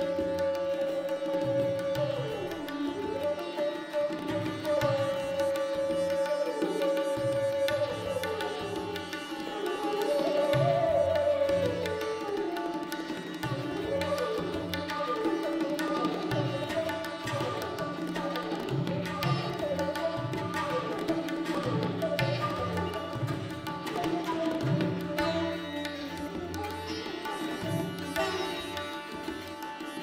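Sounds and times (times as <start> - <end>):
sitar melody with pitch bends: 0.0 - 30.0
tabla drumming: 0.0 - 30.0.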